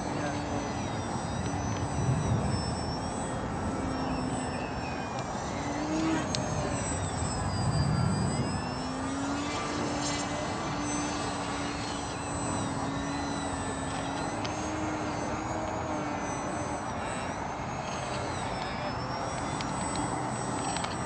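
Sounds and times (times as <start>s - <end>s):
model plane motor humming overhead: 0.0s - 21.0s.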